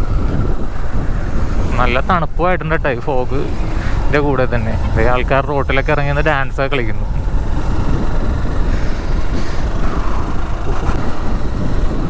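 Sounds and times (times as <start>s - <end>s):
motorcycle engine rumble: 0.0s - 12.0s
wind rush on microphone: 0.0s - 12.0s.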